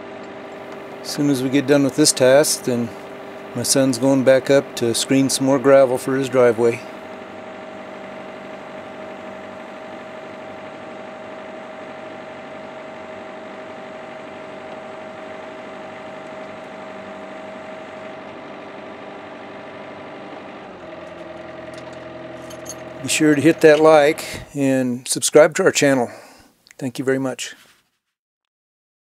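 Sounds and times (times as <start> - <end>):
excavator diesel engine running: 0.0 - 24.8.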